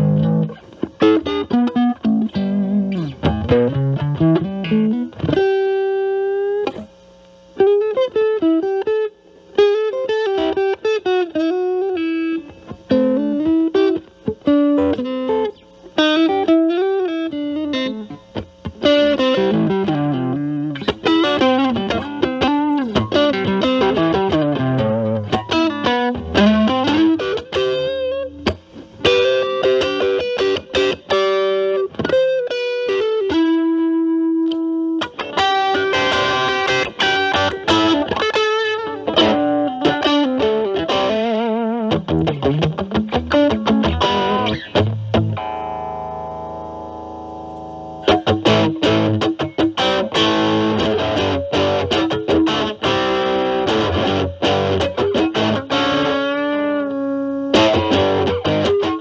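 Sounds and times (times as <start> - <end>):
lightly distorted electric guitar: 0.0 - 59.0.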